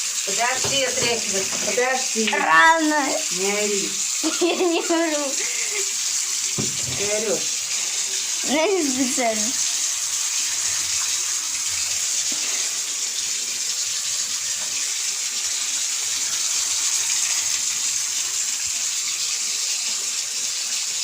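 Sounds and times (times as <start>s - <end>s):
running water hiss: 0.0s - 21.0s.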